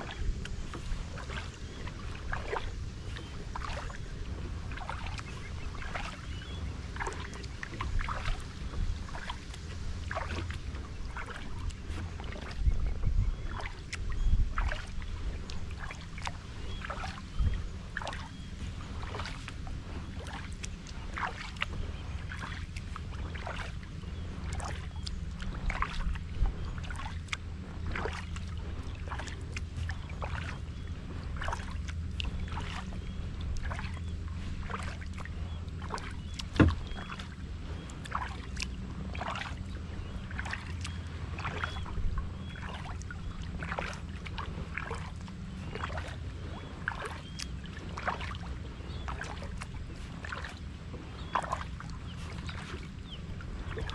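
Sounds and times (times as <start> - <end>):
low rumble: 0.0 - 53.9
paddle strokes splashing water: 0.0 - 53.9.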